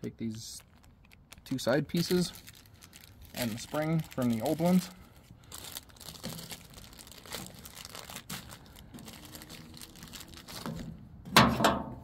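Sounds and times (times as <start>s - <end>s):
crinkling and rustling of parts: 0.1s - 12.0s.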